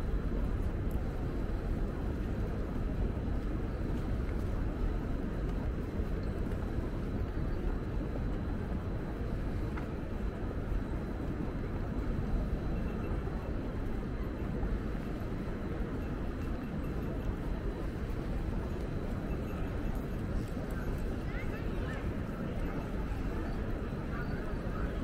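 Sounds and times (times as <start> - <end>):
city traffic rumble: 0.0 - 25.0.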